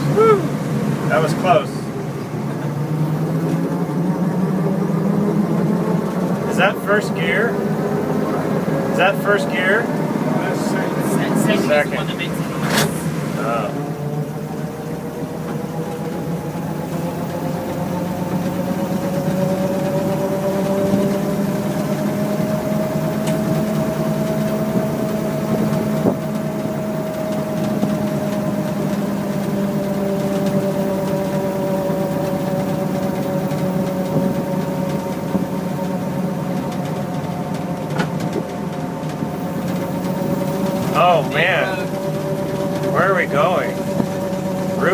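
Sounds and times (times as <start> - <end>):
drivetrain whine: 0.0 - 44.9
truck engine droning: 0.0 - 44.9.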